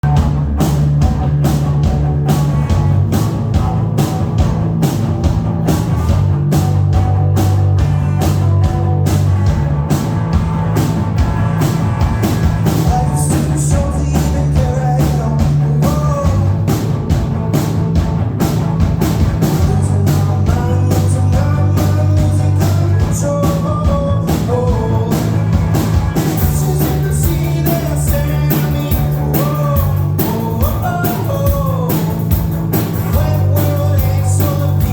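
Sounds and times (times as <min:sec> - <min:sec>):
drums steady beat: 0:00.0 - 0:34.9
rock band playing live: 0:00.0 - 0:34.9.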